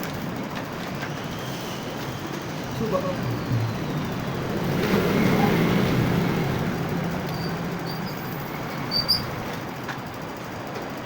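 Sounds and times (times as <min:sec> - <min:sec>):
road noise: 0:00.0 - 0:11.0
vehicle engine drone: 0:00.7 - 0:10.4.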